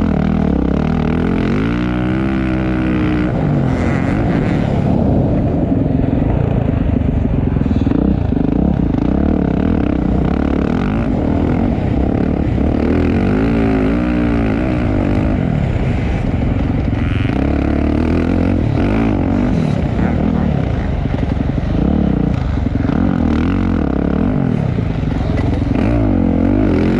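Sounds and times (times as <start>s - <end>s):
dirt bike engines revving: 0.0s - 26.9s.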